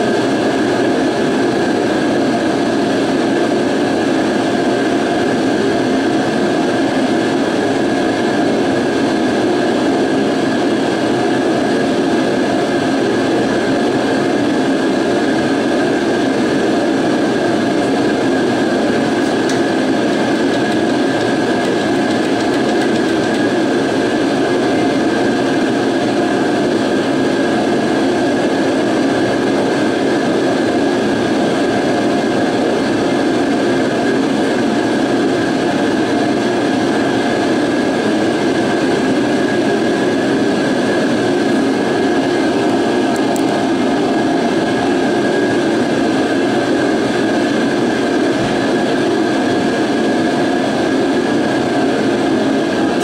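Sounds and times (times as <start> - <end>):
heater running: 0.0 - 53.0.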